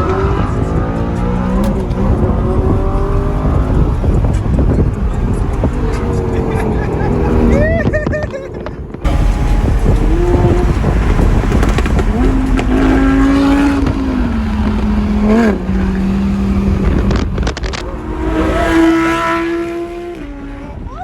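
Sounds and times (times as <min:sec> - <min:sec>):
car engines revving: 0:00.0 - 0:21.0
deep exhaust rumble: 0:01.0 - 0:07.8, 0:09.0 - 0:21.0.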